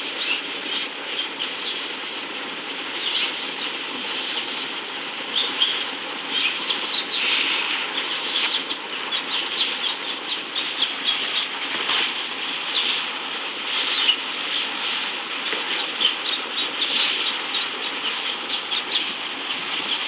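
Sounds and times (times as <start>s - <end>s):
small birds chirping: 0.0s - 20.0s
steady mechanical drone: 0.0s - 20.0s.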